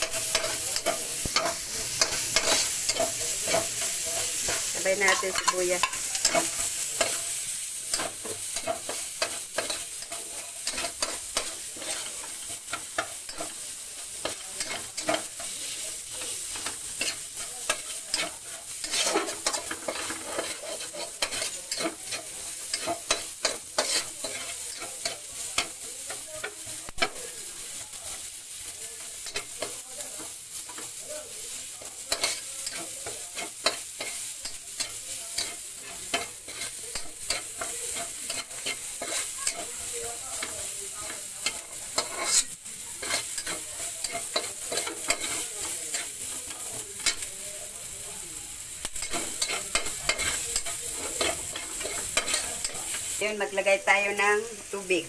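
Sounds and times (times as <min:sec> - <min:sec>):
metal spatula scraping a pan: 0:00.0 - 0:27.2, 0:31.8 - 0:47.3, 0:49.0 - 0:53.7
food sizzling in a wok: 0:00.0 - 0:55.0.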